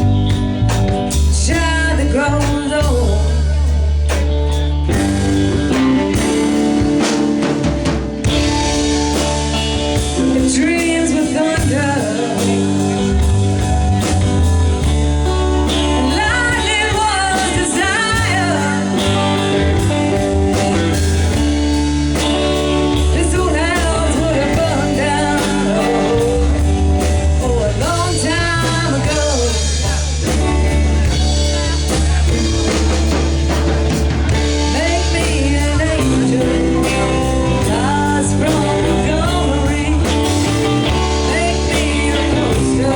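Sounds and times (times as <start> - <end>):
person singing: 0.0 - 4.3, 8.2 - 42.9
live blues-rock band: 0.0 - 42.9.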